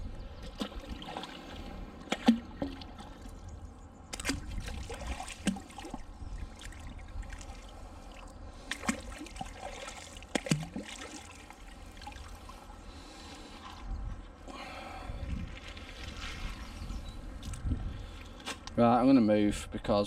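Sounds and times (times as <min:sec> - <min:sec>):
water trickling and splashing: 0:00.4 - 0:14.1, 0:15.2 - 0:17.7.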